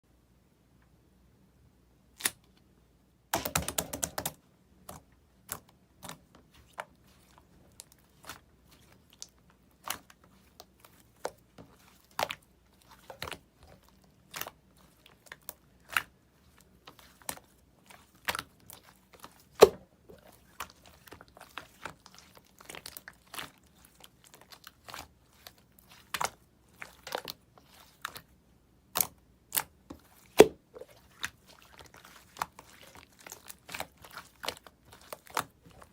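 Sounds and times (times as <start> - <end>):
slime crackling: 5.4 - 35.9.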